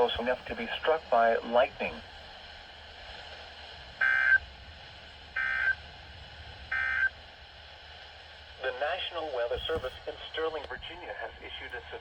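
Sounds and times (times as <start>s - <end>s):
faint radio hiss: 0.0s - 5.8s, 6.7s - 12.0s.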